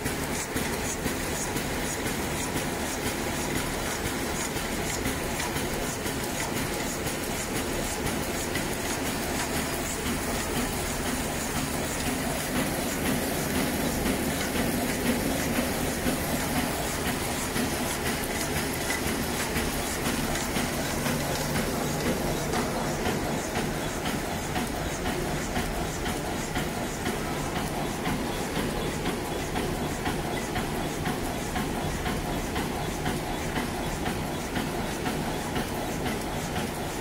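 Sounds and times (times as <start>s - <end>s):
packing machine humming: 0.0s - 37.0s
rapid machine clicking: 0.0s - 37.0s.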